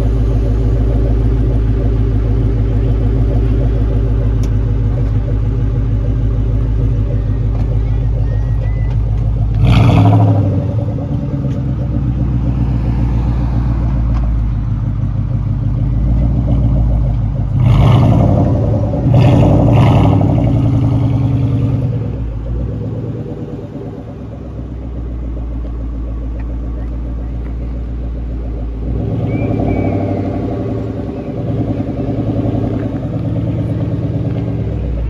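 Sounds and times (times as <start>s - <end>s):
car engine idling and revving: 0.0s - 35.0s
car pulling away: 0.0s - 35.0s.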